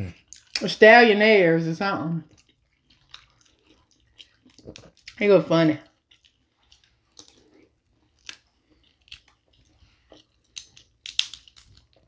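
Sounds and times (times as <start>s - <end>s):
chewing and lip smacking: 0.1s - 0.7s, 2.2s - 5.2s, 5.8s - 12.0s.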